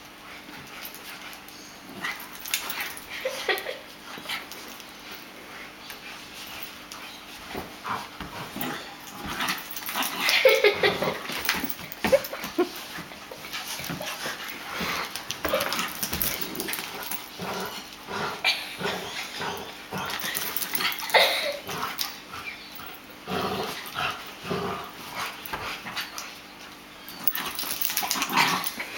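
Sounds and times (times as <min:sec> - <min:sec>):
dogs growling while playing: 0:00.2 - 0:28.9
dogs scuffling: 0:00.4 - 0:18.2, 0:19.1 - 0:23.0, 0:23.6 - 0:28.9.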